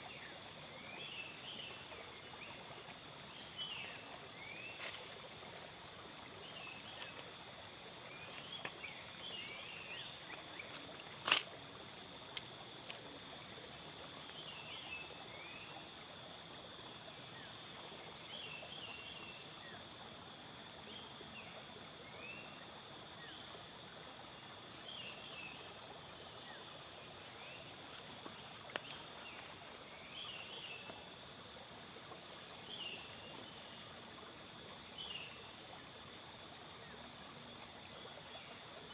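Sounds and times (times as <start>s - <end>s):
cricket trills: 0.0s - 38.9s
insect drone: 0.0s - 38.9s.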